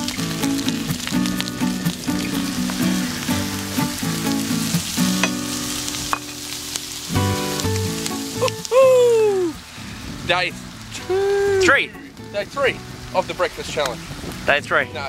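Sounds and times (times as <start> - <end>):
background music: 0.0 - 15.0
food sizzling on a hotplate: 0.0 - 15.0.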